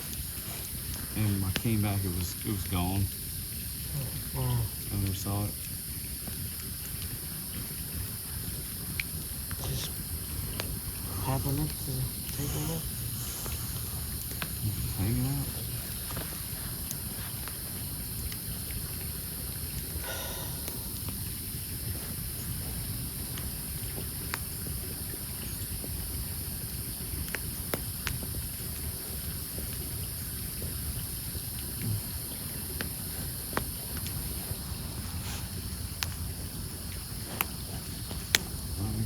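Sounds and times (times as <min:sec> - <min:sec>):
campfire crackling: 0:00.0 - 0:39.0
high insect drone: 0:00.0 - 0:39.0.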